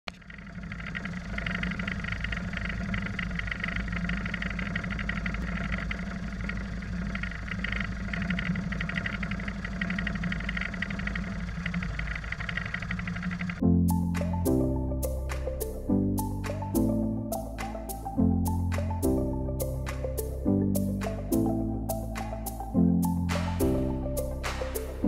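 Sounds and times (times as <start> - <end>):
light aircraft engine idling: 0.1 - 25.0.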